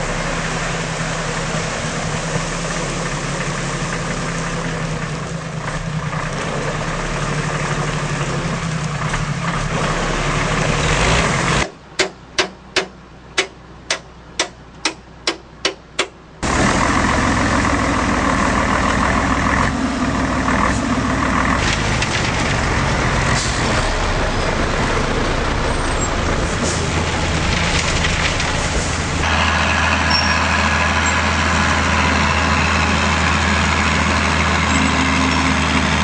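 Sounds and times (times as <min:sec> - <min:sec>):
dump truck diesel engine: 0:00.0 - 0:36.0.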